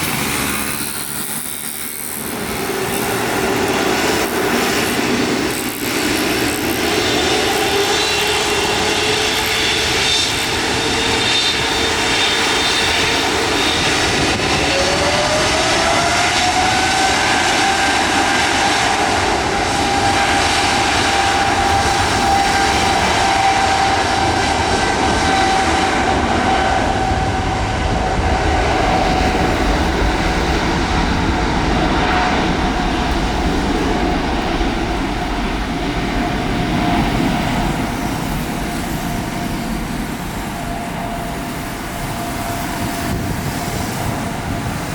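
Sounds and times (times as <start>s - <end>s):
jet engine whine: 0.0s - 44.9s
jet engines roaring: 0.0s - 44.9s.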